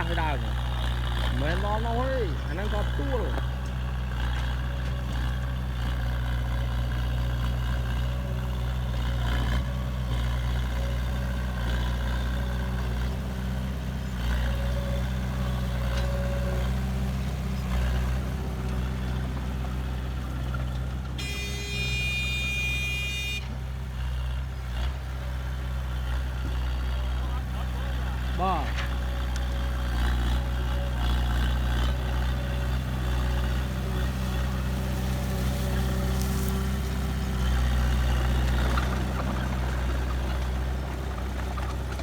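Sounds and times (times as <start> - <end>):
heavy machinery engine running: 0.0 - 42.0.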